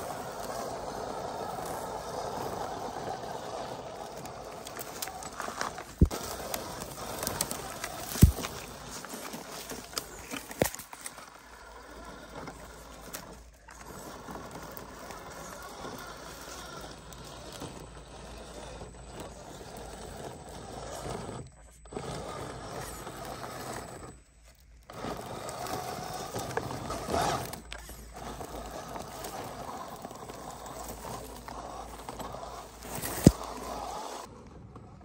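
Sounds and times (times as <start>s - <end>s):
tyres scraping over loose rock: 0.0s - 34.9s
toy car electric motor and gears: 0.0s - 35.0s.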